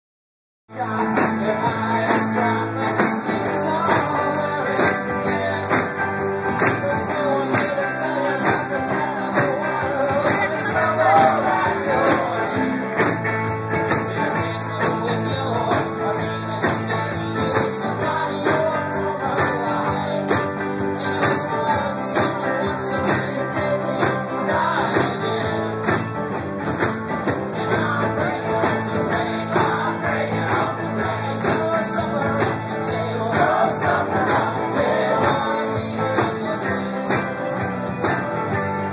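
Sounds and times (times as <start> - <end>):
drum kit: 0.7 - 38.9
electric guitars: 0.7 - 38.9
lead vocals singing: 0.7 - 38.9.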